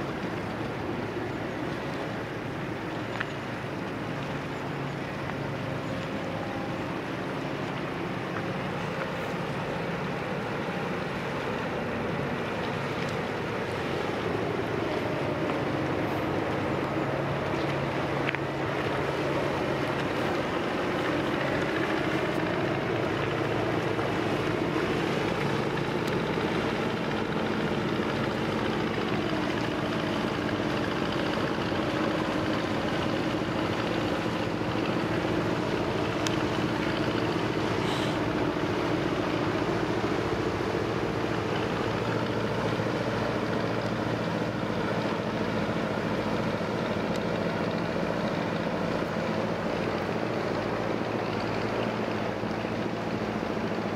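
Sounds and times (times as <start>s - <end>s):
diesel engine humming: 0.0s - 53.9s.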